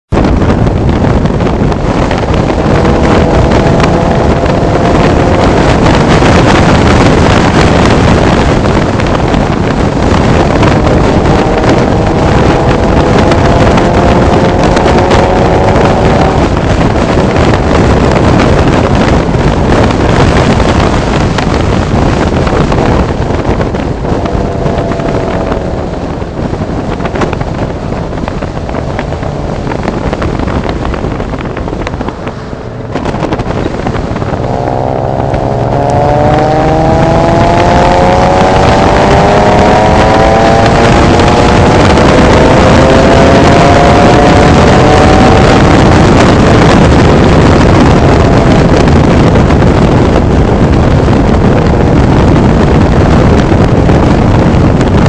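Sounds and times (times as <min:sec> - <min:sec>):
road noise: 0:00.0 - 0:55.0
car engine accelerating: 0:00.1 - 0:55.0
wind buffeting microphone: 0:00.1 - 0:55.0.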